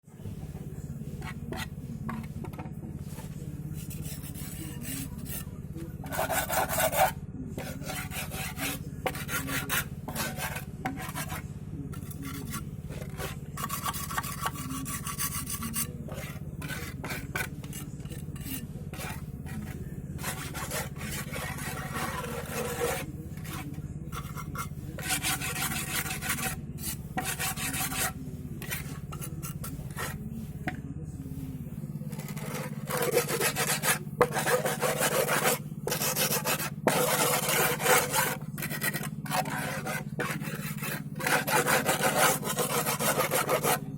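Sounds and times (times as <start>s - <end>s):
steady low hum: 0.0s - 43.9s
scraping and rasping on clay pot: 1.0s - 30.8s, 31.5s - 43.9s.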